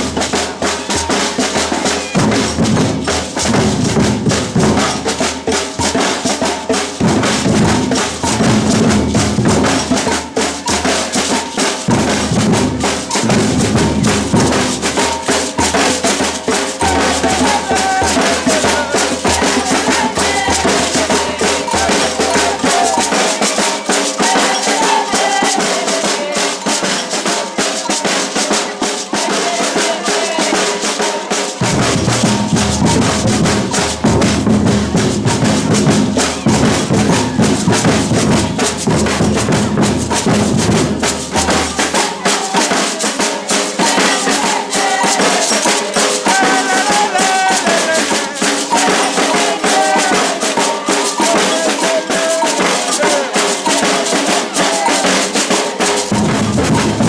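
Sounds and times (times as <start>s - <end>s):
percussion ensemble drumming: 0.0s - 57.0s.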